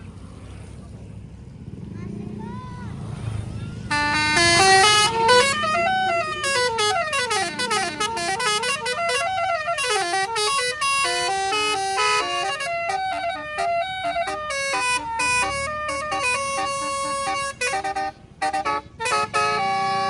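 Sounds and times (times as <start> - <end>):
bus horn playing fast melody: 3.8 - 20.0.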